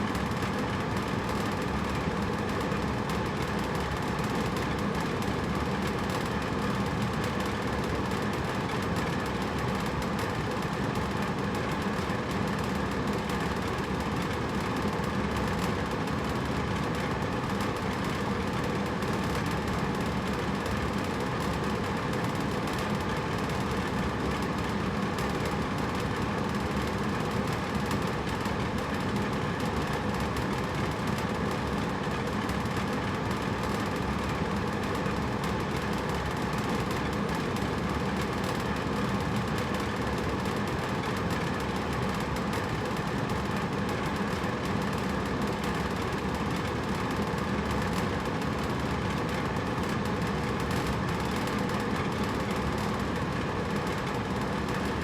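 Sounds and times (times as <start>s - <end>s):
air conditioner whooshing drone: 0.0s - 55.0s.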